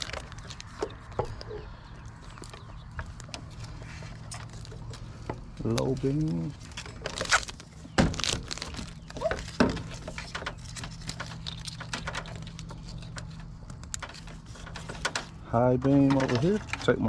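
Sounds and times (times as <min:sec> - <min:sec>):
hands handling plastic parts: 0:00.0 - 0:17.0.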